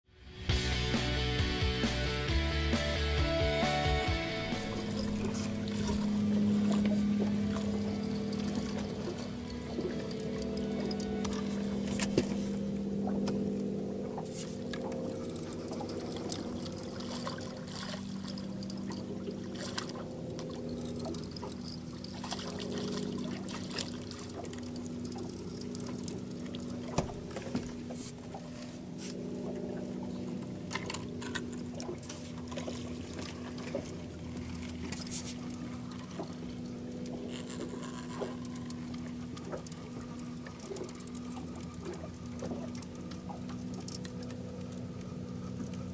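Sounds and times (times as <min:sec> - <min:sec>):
outboard motor running: 0:00.2 - 0:45.9
water splashing against hull: 0:00.5 - 0:45.9.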